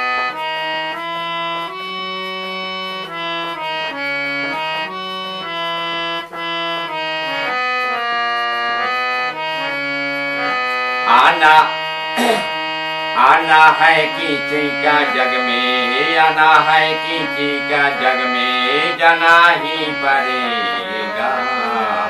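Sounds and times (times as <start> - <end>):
harmonium melody: 0.0 - 22.0.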